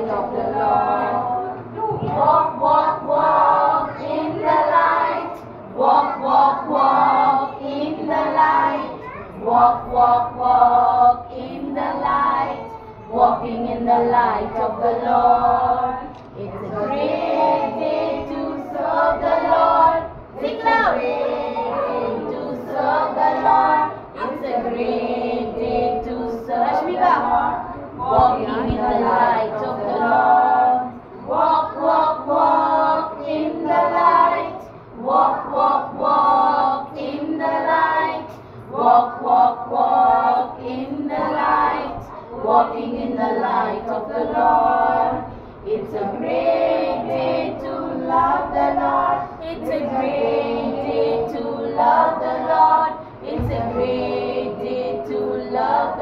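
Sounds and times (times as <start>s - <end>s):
children singing in chorus: 0.0s - 56.0s.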